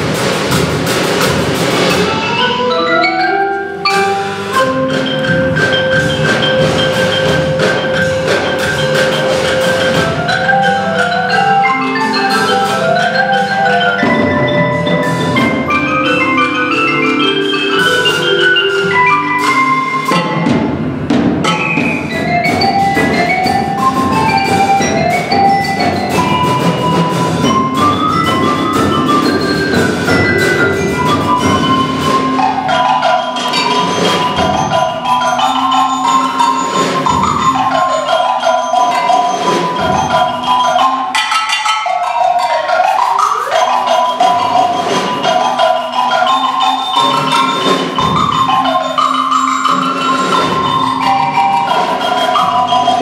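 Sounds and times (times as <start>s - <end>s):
marimba runs: 0.0s - 53.0s.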